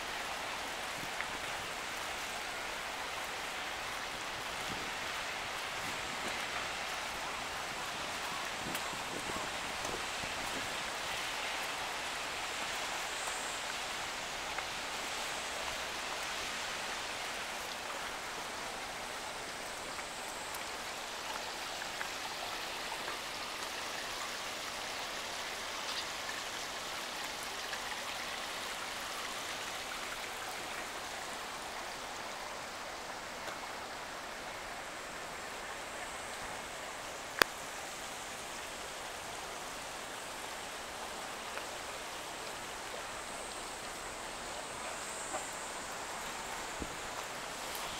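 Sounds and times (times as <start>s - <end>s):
water rushing along a channel: 0.0s - 47.9s.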